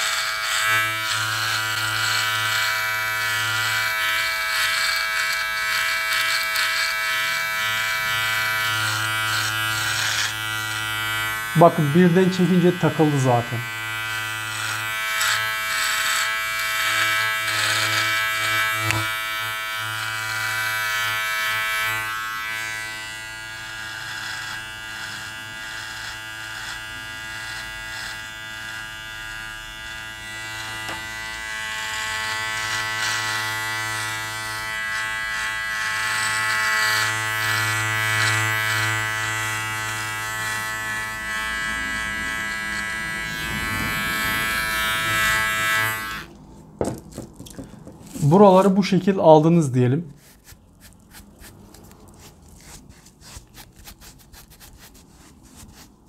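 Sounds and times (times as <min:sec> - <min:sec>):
electric beard trimmer buzzing: 0:00.0 - 0:47.9.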